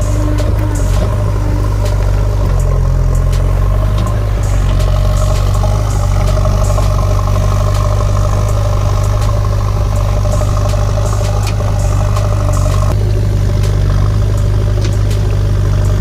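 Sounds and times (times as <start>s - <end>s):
engine-like drone: 0.0s - 16.0s.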